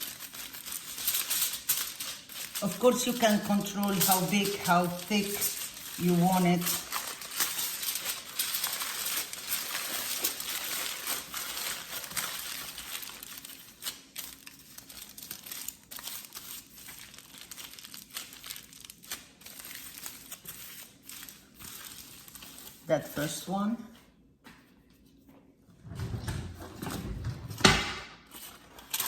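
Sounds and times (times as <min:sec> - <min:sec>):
aluminium foil crinkling: 0:00.0 - 0:23.6, 0:28.2 - 0:29.0.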